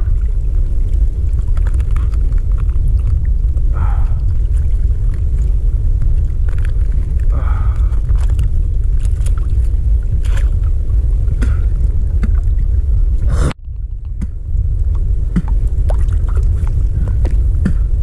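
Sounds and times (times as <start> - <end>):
sea water rumble: 0.0 - 18.0
wind buffeting microphone: 0.0 - 18.0.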